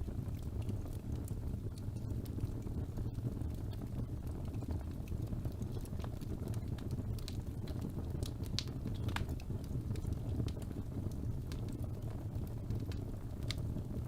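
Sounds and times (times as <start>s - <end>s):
fire burning with crackles: 0.0s - 14.0s.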